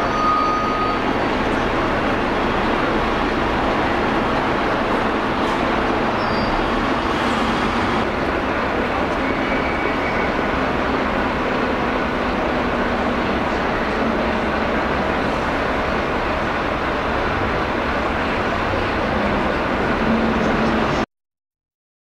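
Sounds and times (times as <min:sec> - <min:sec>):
traffic hum: 0:01.0 - 0:21.1.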